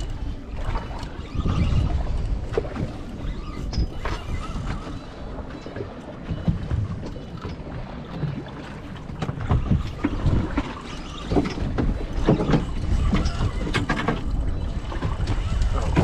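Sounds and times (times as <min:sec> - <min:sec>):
water sloshing against boat: 0:00.0 - 0:16.0
wind buffeting microphone: 0:00.0 - 0:16.0.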